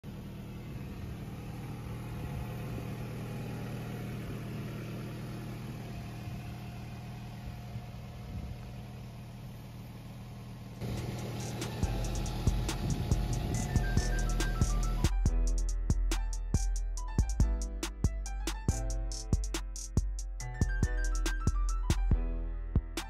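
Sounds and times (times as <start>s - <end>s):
engine idling: 0.0s - 22.2s.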